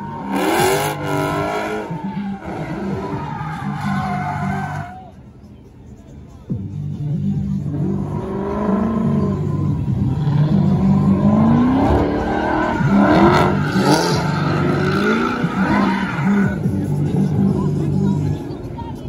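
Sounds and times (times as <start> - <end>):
car engine revving: 0.0 - 4.8, 7.4 - 18.6.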